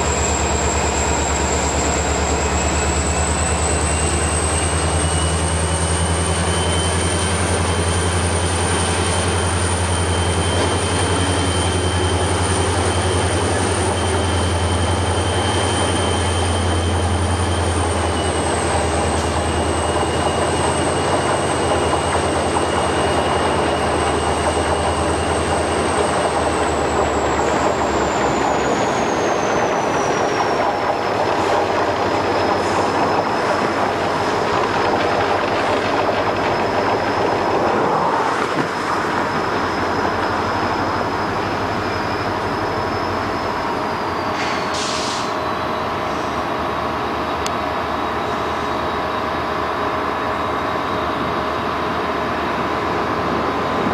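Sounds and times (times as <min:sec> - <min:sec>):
train rumbling by: 0:00.0 - 0:53.9.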